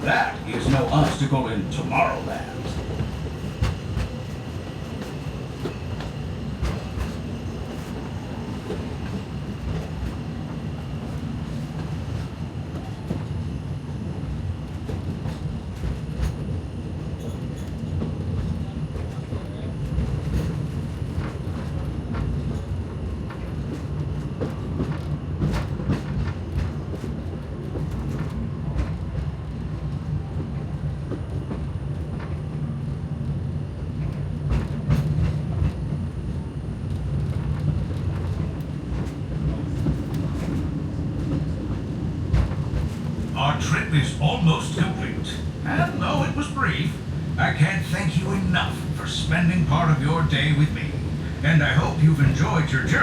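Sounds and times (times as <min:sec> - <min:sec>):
train car rumbling on track: 0:00.0 - 0:53.0.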